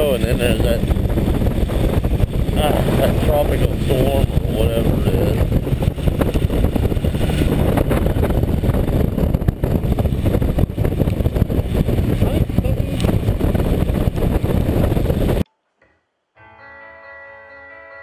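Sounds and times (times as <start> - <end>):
motorcycle engine running: 0.0 - 15.4
wind rushing over microphone: 0.0 - 15.4.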